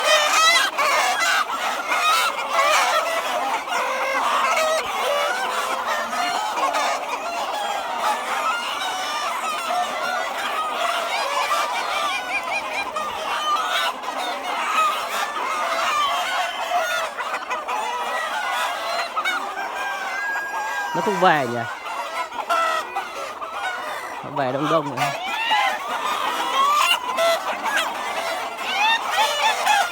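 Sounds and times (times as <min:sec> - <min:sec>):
chickens clucking and squawking: 0:00.0 - 0:29.9
roosters crowing: 0:00.0 - 0:29.9.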